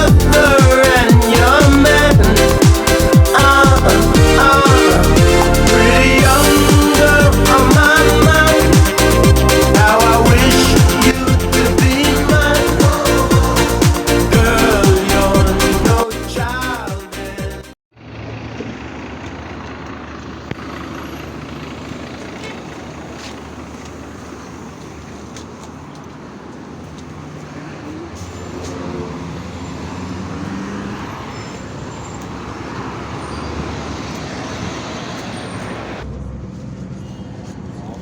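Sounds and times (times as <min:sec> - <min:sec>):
bus engine running: 0:00.0 - 0:38.0
road noise: 0:00.0 - 0:38.0.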